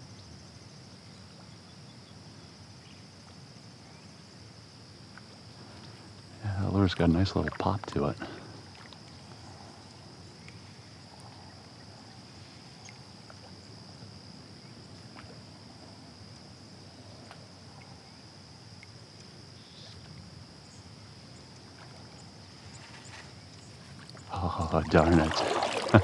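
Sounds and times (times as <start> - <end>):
calm water ambience: 0.0 - 26.0
insect chorus drone: 0.0 - 26.0.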